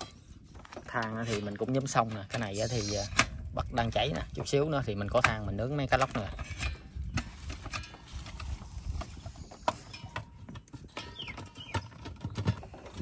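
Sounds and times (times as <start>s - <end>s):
charcoal fire crackling: 0.0s - 13.0s
wind: 0.0s - 13.0s.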